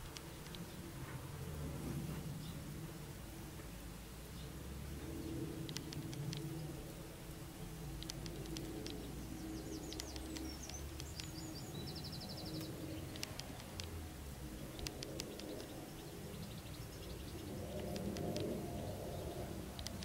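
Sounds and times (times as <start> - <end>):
low background hum: 0.0 - 20.0
wild birds chirping: 0.0 - 20.0.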